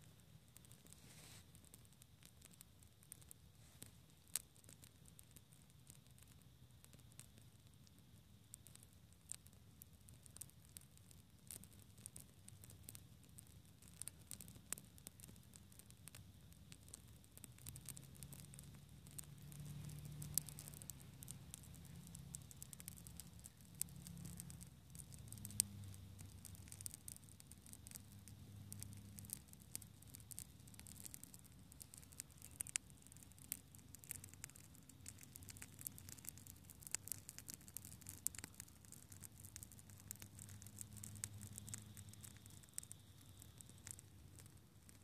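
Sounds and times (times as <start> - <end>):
faint low hum: 0.0 - 45.0
small fire crackling and popping: 0.0 - 45.0.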